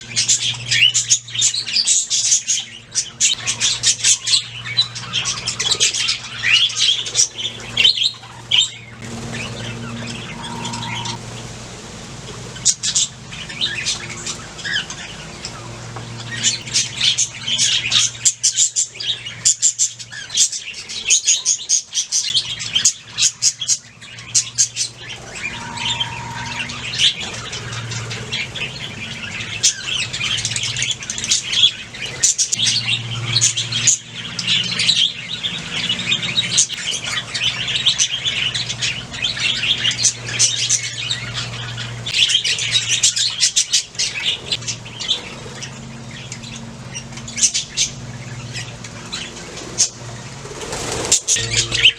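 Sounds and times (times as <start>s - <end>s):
budgerigars chirping and warbling: 0.0s - 11.6s, 12.2s - 51.9s
steady low hum: 0.0s - 51.9s.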